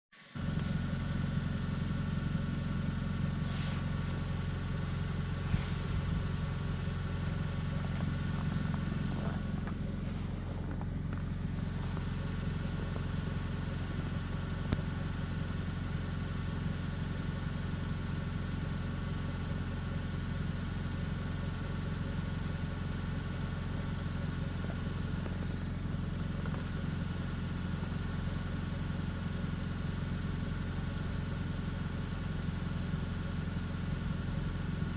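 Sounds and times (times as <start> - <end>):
motor idling hum: 0.2 - 34.9.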